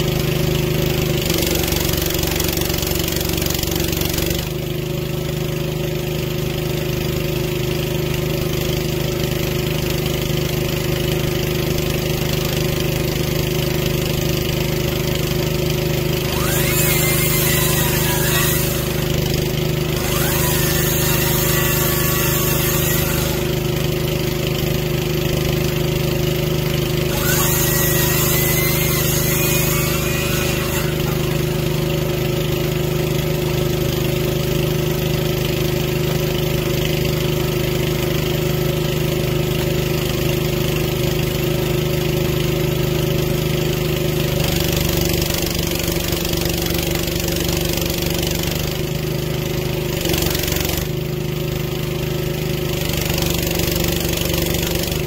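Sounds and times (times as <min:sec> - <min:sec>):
small engine idling: 0:00.0 - 0:55.0.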